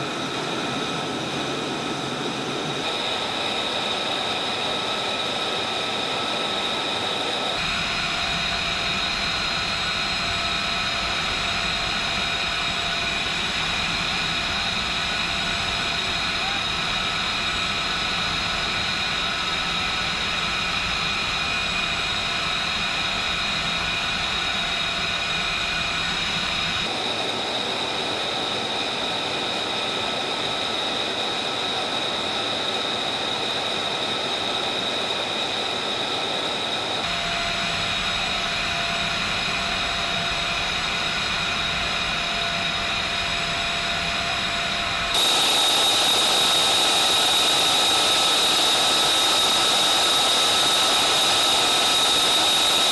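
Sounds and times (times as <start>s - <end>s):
jet engine rushing and whining: 0.0s - 52.9s.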